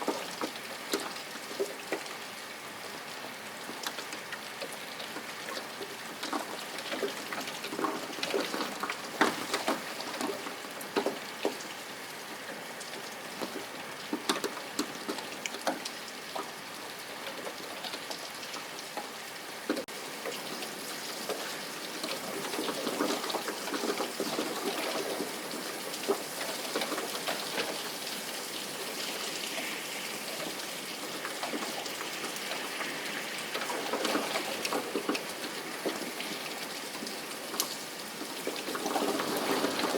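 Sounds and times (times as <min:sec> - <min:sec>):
rain falling: 0:00.0 - 0:39.9
raindrops ticking on surface: 0:00.0 - 0:39.9.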